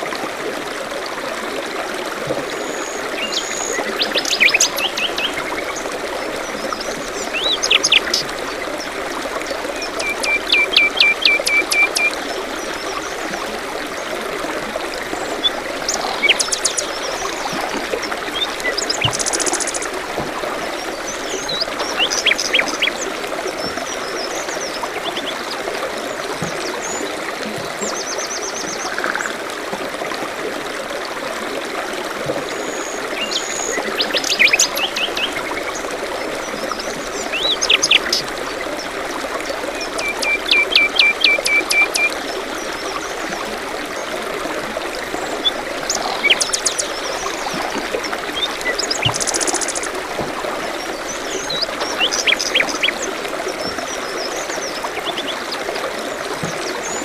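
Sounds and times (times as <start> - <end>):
forest stream trickling: 0.0 - 57.0.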